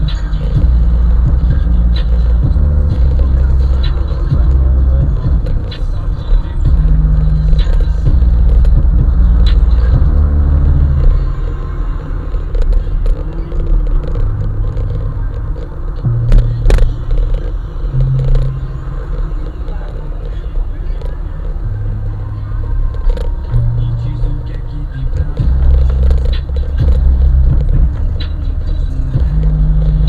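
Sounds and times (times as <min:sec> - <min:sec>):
car rumble: 0:00.0 - 0:30.0
heavy-bass rap on car stereo: 0:00.0 - 0:30.0.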